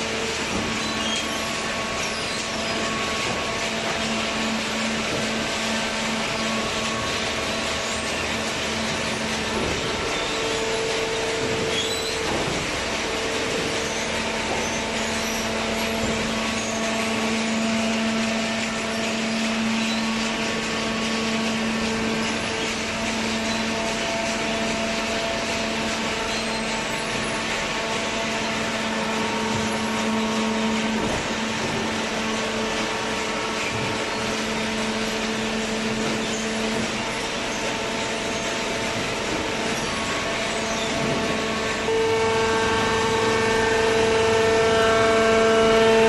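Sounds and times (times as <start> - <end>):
baling machine humming: 0.0 - 46.0
low machine tone: 0.0 - 46.0.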